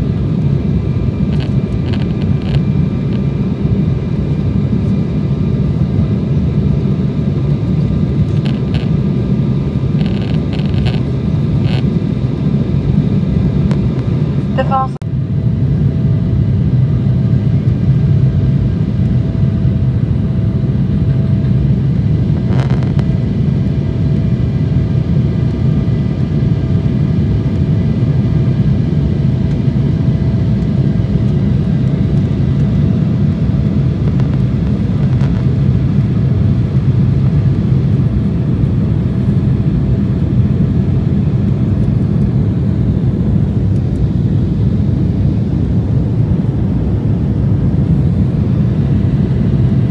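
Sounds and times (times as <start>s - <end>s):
jet engine cabin drone: 0.0s - 49.9s.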